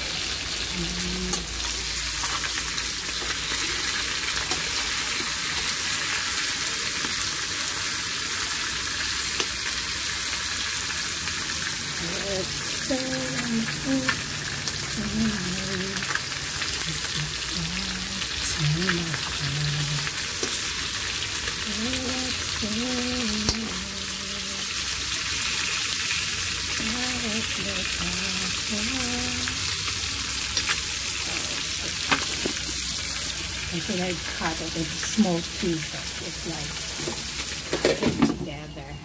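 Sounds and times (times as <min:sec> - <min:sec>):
chicken wings sizzling in oil: 0:00.0 - 0:38.3.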